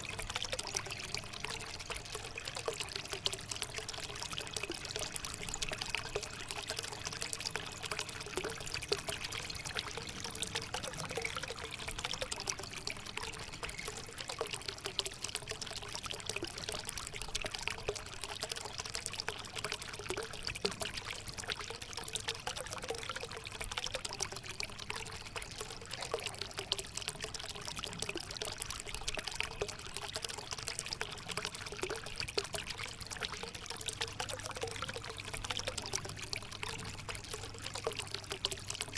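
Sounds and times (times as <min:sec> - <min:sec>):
water pouring into fountain basin: 0:00.0 - 0:38.9.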